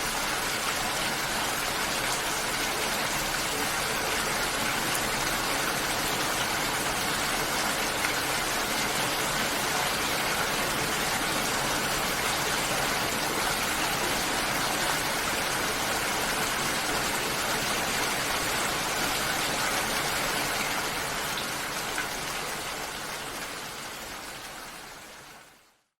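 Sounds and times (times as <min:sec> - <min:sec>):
steady rain: 0:00.0 - 0:25.9.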